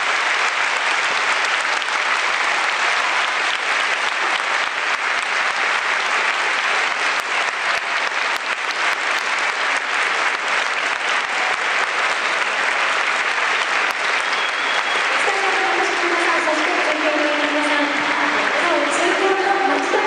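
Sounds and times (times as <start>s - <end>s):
stadium crowd applauding: 0.0s - 20.0s.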